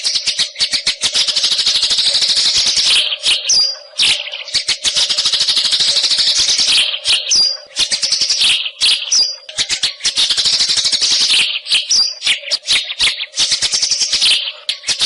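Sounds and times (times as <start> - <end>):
songbird chattering and whistling: 0.0 - 15.0.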